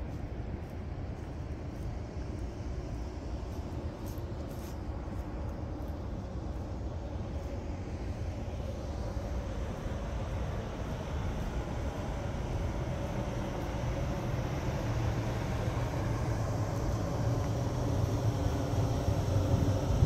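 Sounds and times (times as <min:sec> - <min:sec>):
low rumble of city noise: 0:00.0 - 0:20.0.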